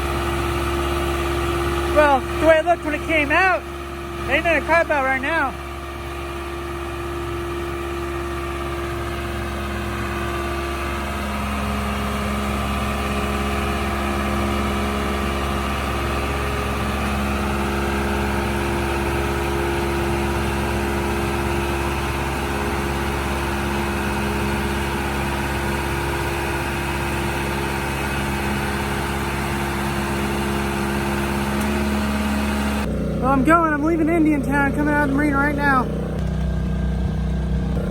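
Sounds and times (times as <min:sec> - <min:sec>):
small boat engine running: 0:00.0 - 0:37.9.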